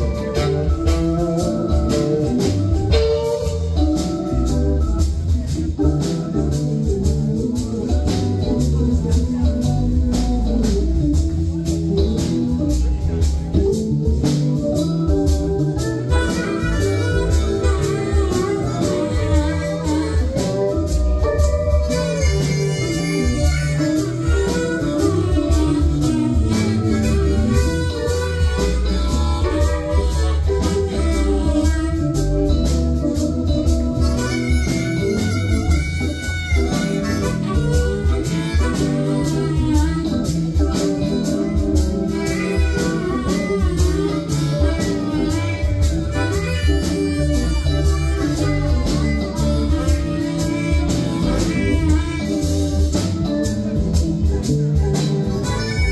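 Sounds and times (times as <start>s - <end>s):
drum kit: 0.0s - 55.9s
electric guitar: 0.0s - 55.9s
harmonica: 0.0s - 55.9s
keyboards: 0.0s - 55.9s.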